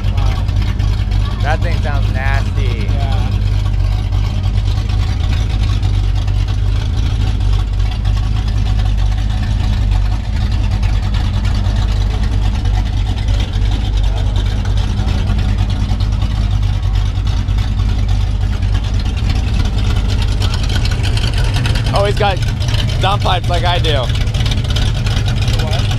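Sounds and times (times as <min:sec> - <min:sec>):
car exhaust rumble: 0:00.0 - 0:25.9.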